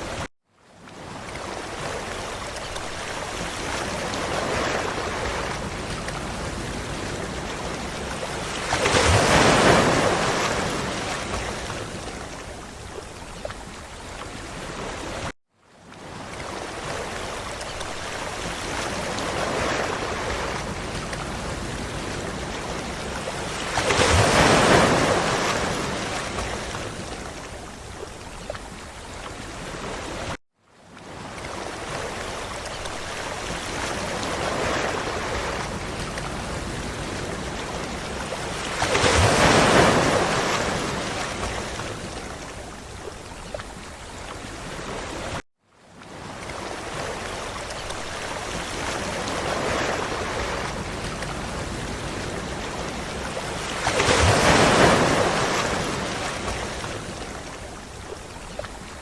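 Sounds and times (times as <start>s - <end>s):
surf washing on beach: 0.0s - 59.0s.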